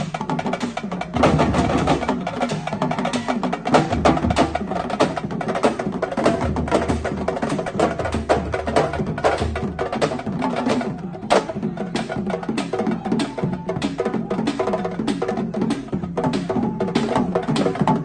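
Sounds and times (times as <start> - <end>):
fast percussion music: 0.0 - 18.0.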